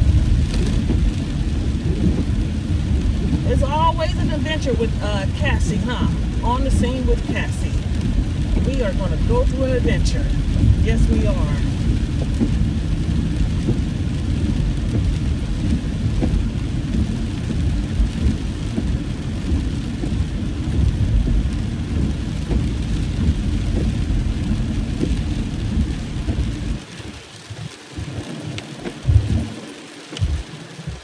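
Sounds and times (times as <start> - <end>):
heavy rain drumming on car roof: 0.0 - 31.0.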